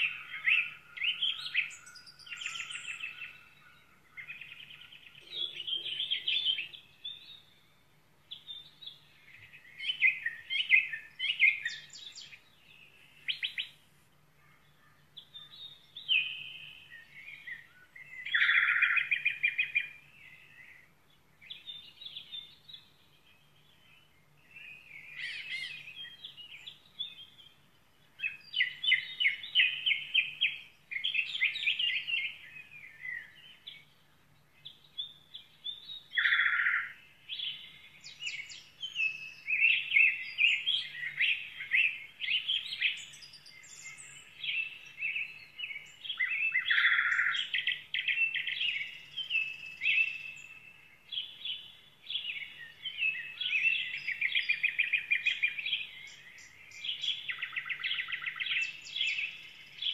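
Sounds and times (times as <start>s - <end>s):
small songbirds singing: 0.0s - 59.9s.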